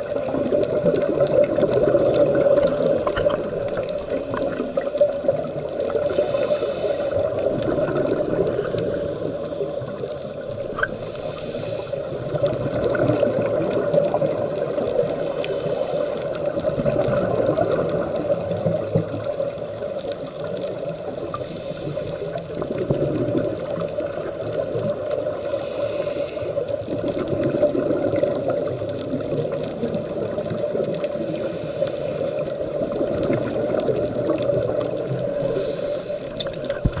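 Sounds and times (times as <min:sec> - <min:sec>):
regulator breathing bubbles: 0:00.0 - 0:19.8, 0:20.7 - 0:37.0
underwater water rumble: 0:00.0 - 0:37.0.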